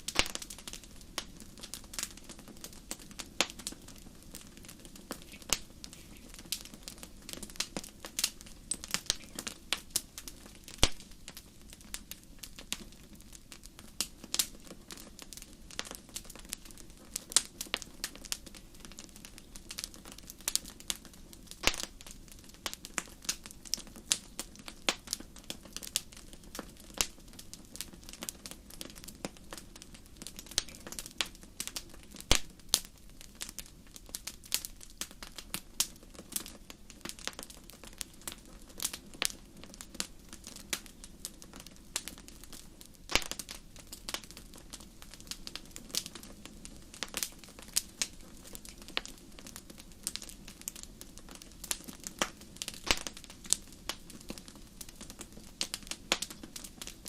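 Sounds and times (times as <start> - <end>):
fire popping and snapping: 0.0 - 57.0
hiss of burning: 0.0 - 57.0
wood fire crackling: 0.0 - 57.0.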